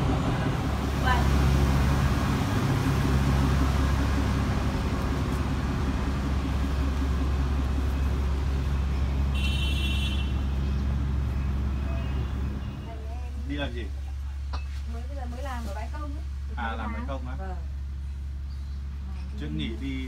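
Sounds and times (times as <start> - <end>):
train diesel engine idling: 0.0 - 20.0.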